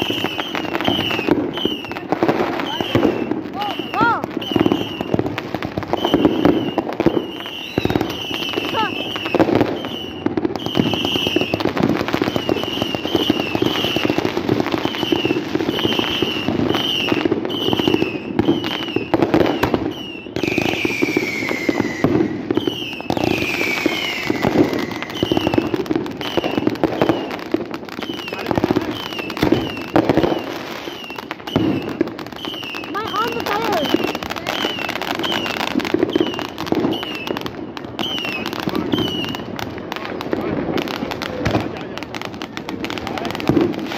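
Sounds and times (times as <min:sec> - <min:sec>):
fireworks crackling and banging: 0:00.0 - 0:43.9
fireworks falling whistles: 0:00.0 - 0:43.9.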